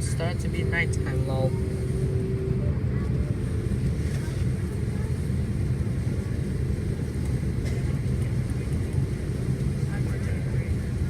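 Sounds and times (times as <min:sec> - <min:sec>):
low aircraft cabin rumble: 0:00.0 - 0:11.0.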